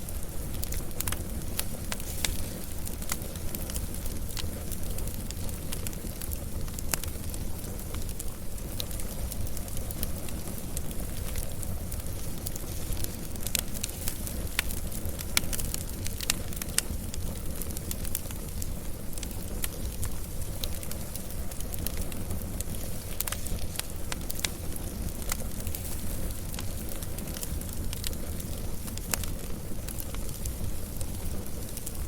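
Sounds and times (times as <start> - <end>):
low rumble of fire: 0.0 - 32.0
wood fire crackling and popping: 0.0 - 32.0.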